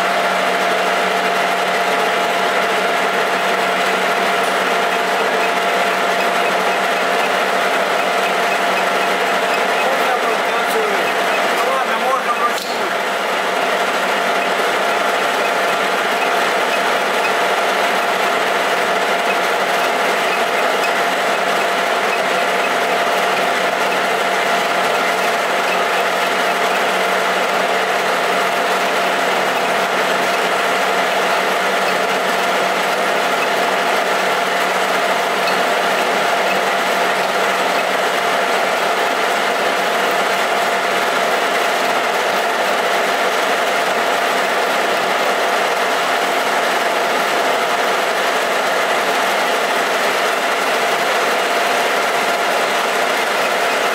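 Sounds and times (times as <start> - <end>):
metal lathe running: 0.0 - 53.9.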